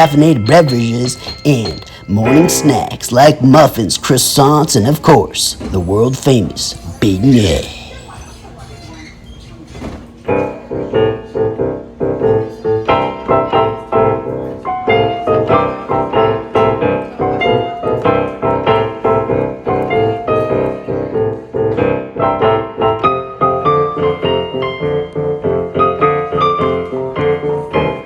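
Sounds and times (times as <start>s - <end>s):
piano music: 0.0s - 8.0s, 10.3s - 28.0s.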